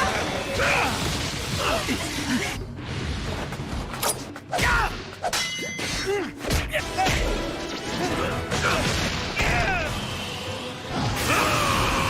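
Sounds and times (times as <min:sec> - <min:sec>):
battle soundtrack music: 0:00.0 - 0:12.0.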